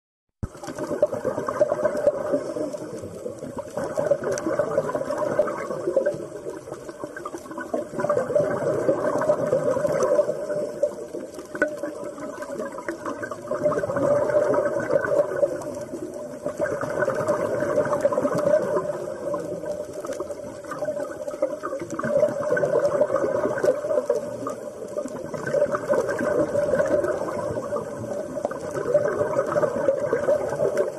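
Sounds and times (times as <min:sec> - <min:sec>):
underwater bubbling and gurgling: 0:00.4 - 0:30.9.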